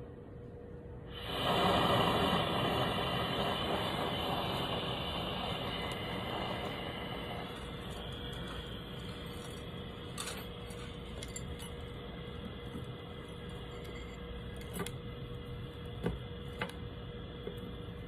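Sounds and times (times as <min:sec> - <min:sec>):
faint steady hum: 0:00.0 - 0:18.0
torch burning with hiss: 0:01.1 - 0:18.0.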